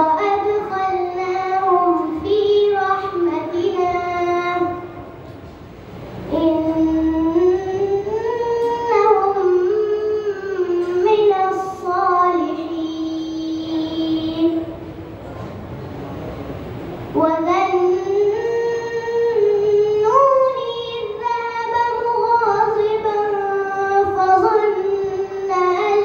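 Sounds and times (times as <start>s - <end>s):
boy chanting into a microphone: 0.0s - 5.5s, 6.2s - 15.1s, 17.1s - 26.0s.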